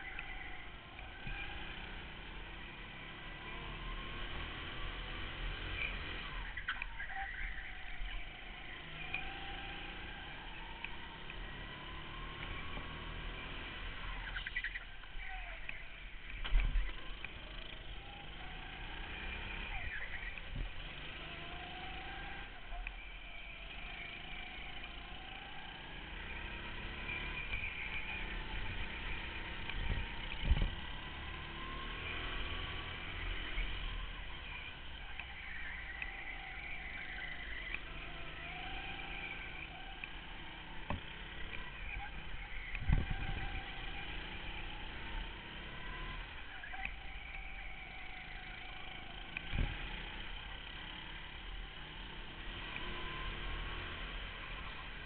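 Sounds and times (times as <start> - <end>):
go-kart engines racing: 0.0 - 55.0.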